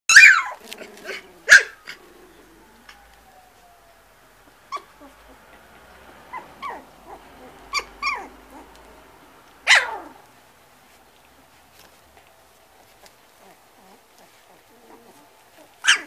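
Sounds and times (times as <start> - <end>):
puppies yelping and whimpering: 0.1 - 10.3, 12.7 - 16.0.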